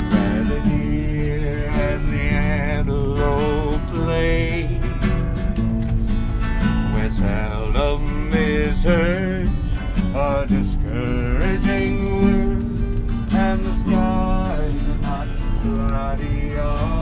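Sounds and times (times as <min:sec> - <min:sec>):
person singing: 0:00.0 - 0:05.1, 0:06.9 - 0:17.0
acoustic guitar country tune: 0:00.0 - 0:17.0.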